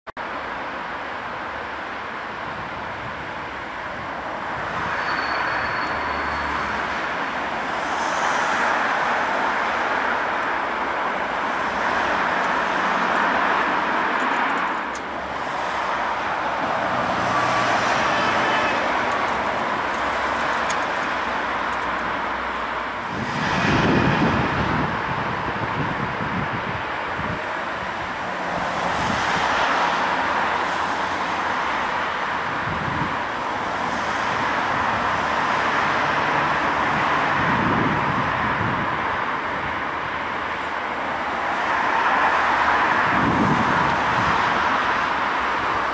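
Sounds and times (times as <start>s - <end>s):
distant jet engine rush: 2.5s - 45.9s.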